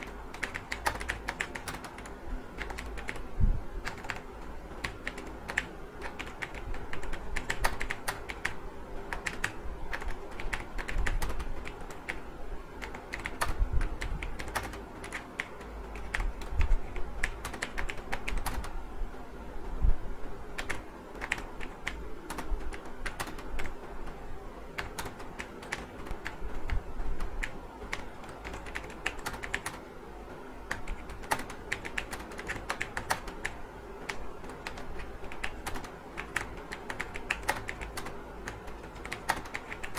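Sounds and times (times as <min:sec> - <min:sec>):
typing on computer keyboard: 0:00.0 - 0:12.2, 0:12.8 - 0:18.8, 0:20.6 - 0:24.2, 0:24.8 - 0:29.8, 0:30.7 - 0:39.9.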